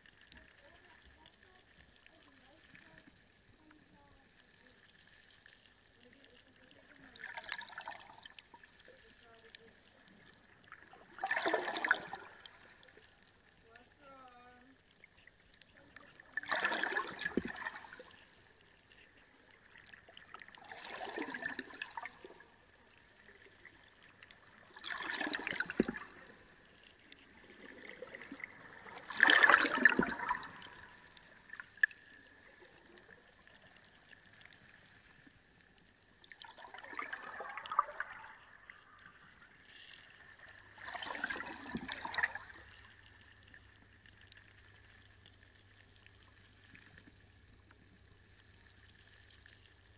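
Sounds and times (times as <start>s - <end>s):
aquarium water splashing and gurgling: 0.0s - 49.9s.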